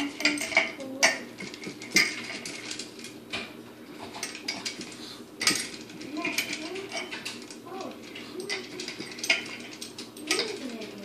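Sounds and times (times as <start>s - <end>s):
dog eating from bowl: 0.1s - 3.2s, 3.9s - 11.0s.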